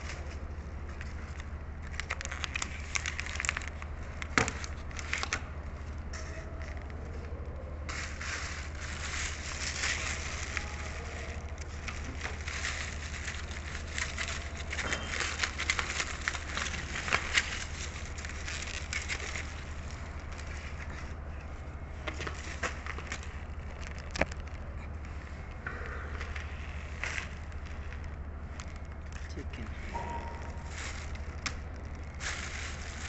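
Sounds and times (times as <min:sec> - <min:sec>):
crunching and chewing: 0:00.3 - 0:07.9, 0:08.7 - 0:33.0.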